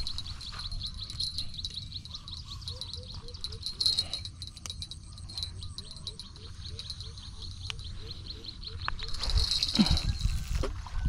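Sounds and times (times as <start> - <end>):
insects chirring: 0.0 - 10.7.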